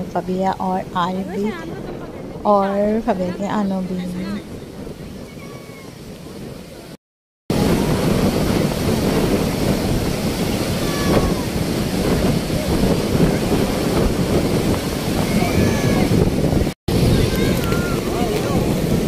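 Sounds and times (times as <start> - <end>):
surf breaking on beach: 0.0 - 19.0
wind on microphone: 0.0 - 19.0.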